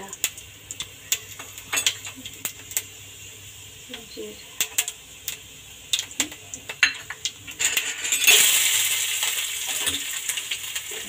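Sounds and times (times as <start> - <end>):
onion sizzling in oil: 0.0 - 11.0
seeds crackling in hot oil: 0.0 - 11.0.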